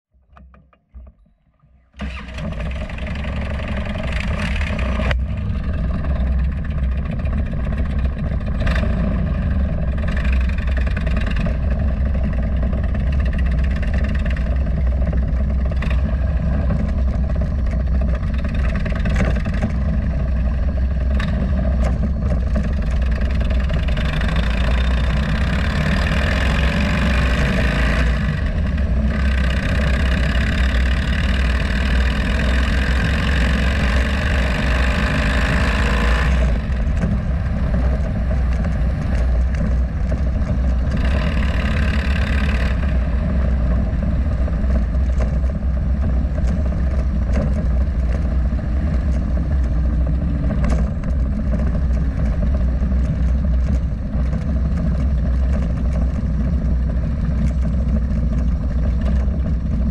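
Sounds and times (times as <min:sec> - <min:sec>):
motorcycle engine running: 0:02.0 - 0:59.9
road noise: 0:02.0 - 0:59.9
wind noise: 0:02.0 - 0:59.9.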